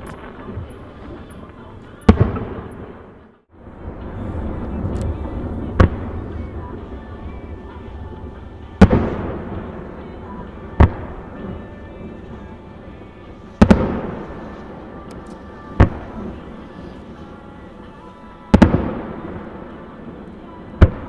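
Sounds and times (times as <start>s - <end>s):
rolling rumble: 0.0s - 21.0s.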